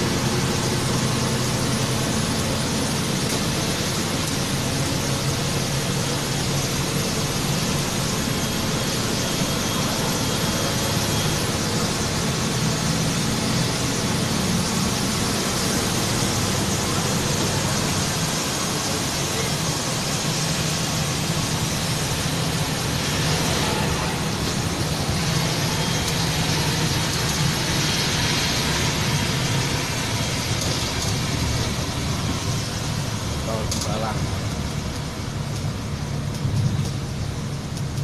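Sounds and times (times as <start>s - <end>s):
bus diesel engine: 0.0s - 38.0s
tyres hissing on wet road: 0.0s - 38.0s.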